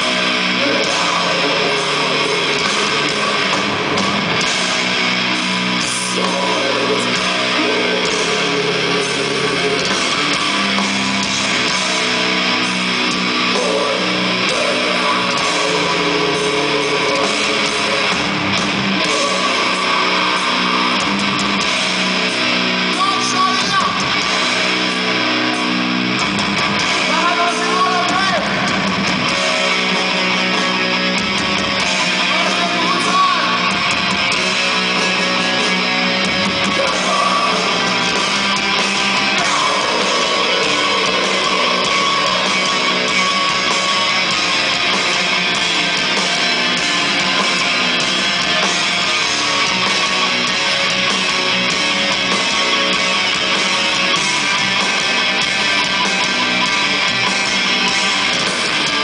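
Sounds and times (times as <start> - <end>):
distorted electric guitars: 0.0 - 59.0
drums: 0.0 - 59.0.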